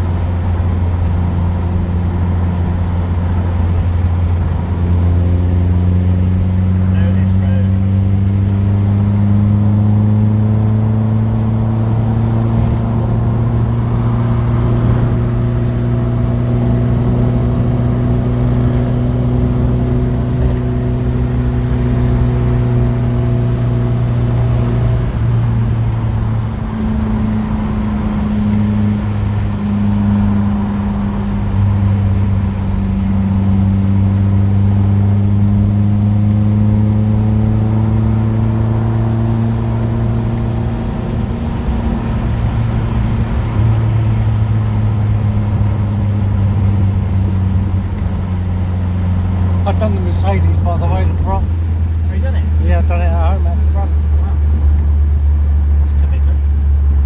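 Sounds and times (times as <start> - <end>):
car engine drone inside cabin: 0.0 - 57.0.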